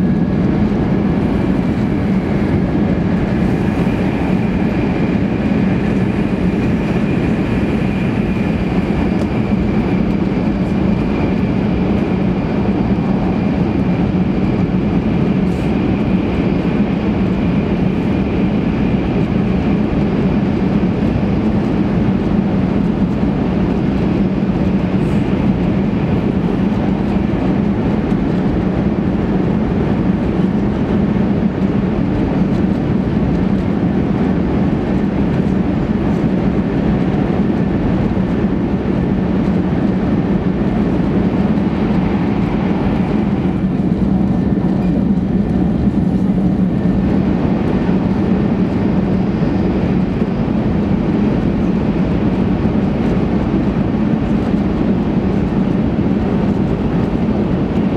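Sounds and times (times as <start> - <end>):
train cabin rumble: 0.0 - 20.6, 21.2 - 57.9.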